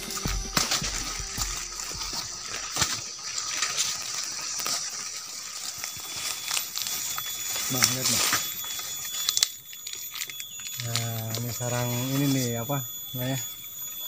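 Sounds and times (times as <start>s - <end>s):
leaves and branches rustling: 0.0s - 13.7s
twigs and leaf litter crackling: 0.0s - 14.0s.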